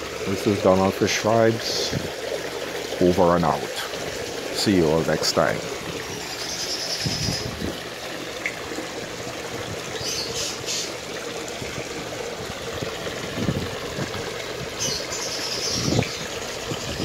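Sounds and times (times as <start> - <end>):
fountain splashing into pond: 0.0 - 17.0.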